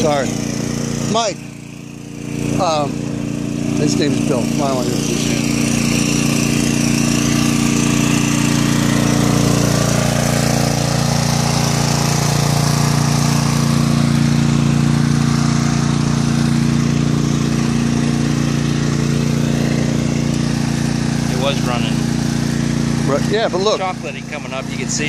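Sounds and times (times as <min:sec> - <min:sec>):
generator engine running: 0:00.0 - 0:25.0.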